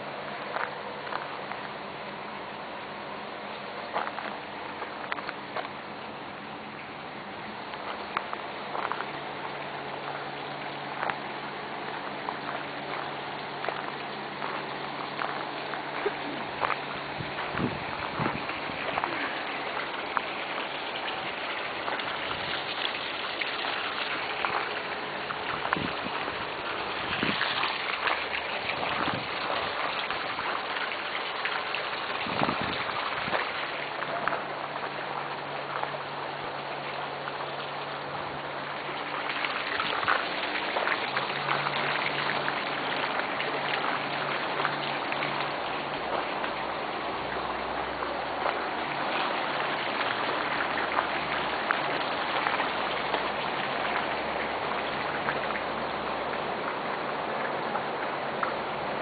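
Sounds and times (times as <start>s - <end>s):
running water splashing: 0.0s - 59.0s
water drips: 3.3s - 59.0s.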